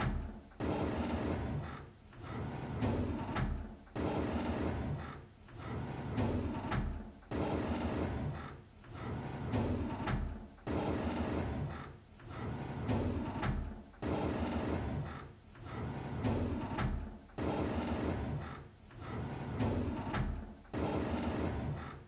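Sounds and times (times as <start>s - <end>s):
drawer sliding open: 2.3s - 22.0s.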